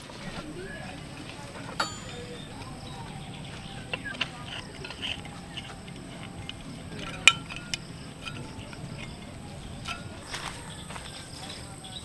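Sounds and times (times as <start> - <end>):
outdoor background noise: 0.0 - 12.0
sharp ringing clink: 0.5 - 11.7.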